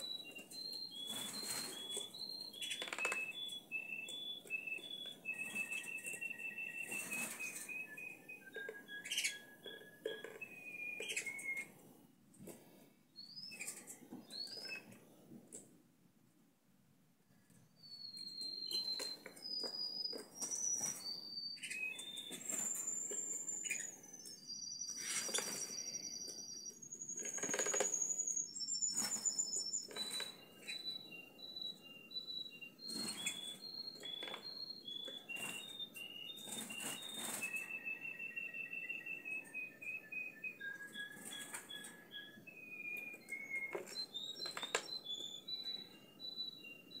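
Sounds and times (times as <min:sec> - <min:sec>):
canary singing: 0:00.0 - 0:11.8, 0:13.2 - 0:15.0, 0:17.5 - 0:47.0.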